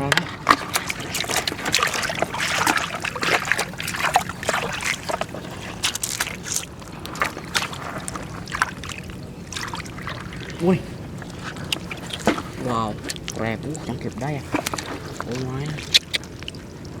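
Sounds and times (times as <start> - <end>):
steady low hum: 0.0 - 17.0
water splashing and sloshing: 0.0 - 17.0.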